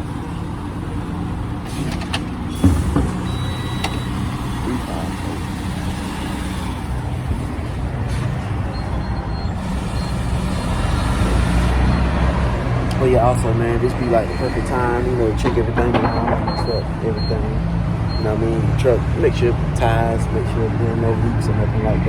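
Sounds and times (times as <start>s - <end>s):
truck engines idling: 0.0s - 22.0s.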